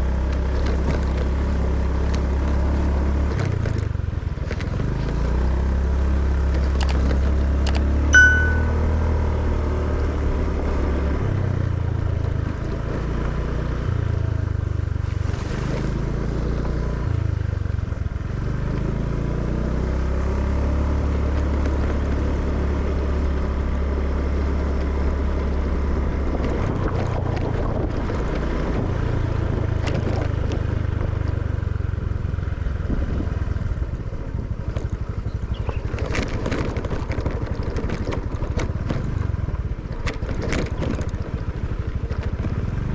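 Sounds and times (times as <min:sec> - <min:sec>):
motorcycle engine riding: 0:00.0 - 0:42.9.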